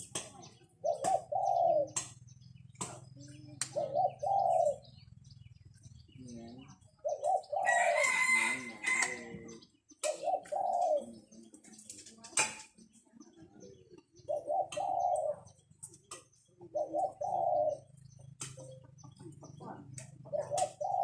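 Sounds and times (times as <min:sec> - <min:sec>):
doves cooing: 0:00.0 - 0:21.0.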